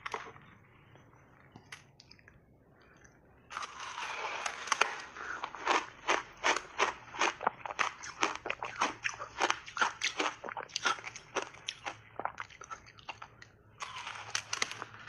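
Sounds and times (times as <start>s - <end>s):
crunchy chewing of ice: 1.4s - 15.0s.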